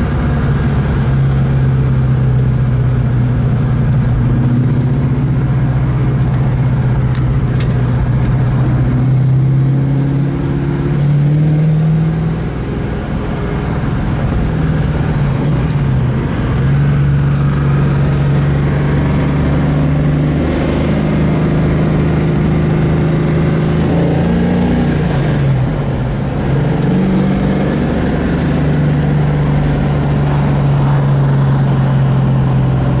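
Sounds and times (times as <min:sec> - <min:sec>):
car engine from inside cabin: 0:00.0 - 0:33.0.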